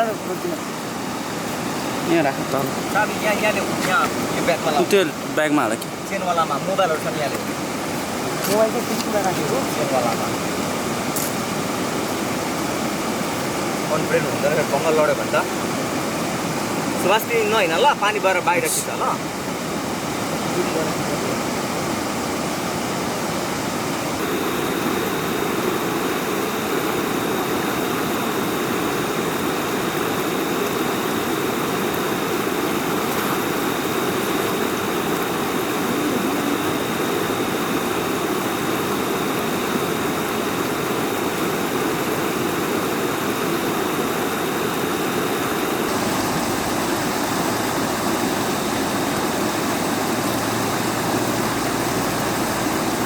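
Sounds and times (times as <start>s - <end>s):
river water rushing over rocks: 0.0s - 53.0s.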